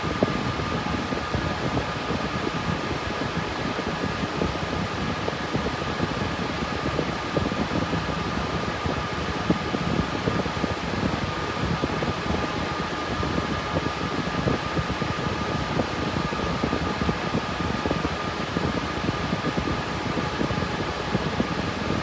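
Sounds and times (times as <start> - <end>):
cooling fans whirring: 0.0 - 22.0.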